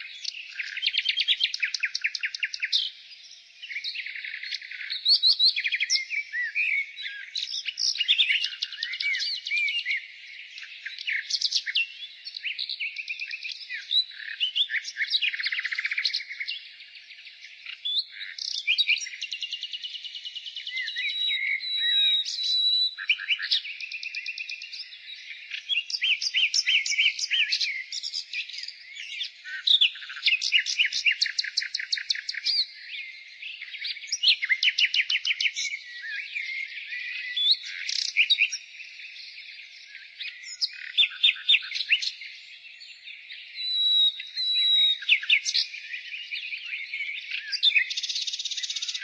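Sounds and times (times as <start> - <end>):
nightingale singing: 0.0 - 49.0.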